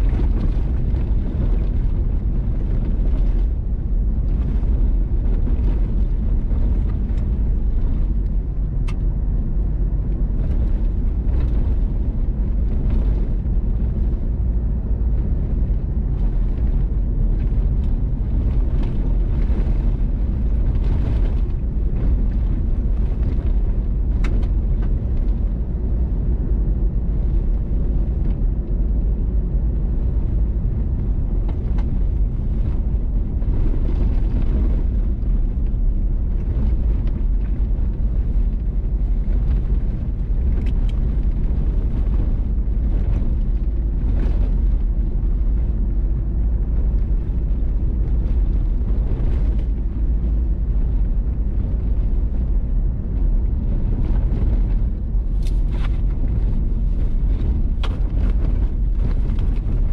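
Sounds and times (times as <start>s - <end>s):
vehicle driving on gravel: 0.0s - 59.9s.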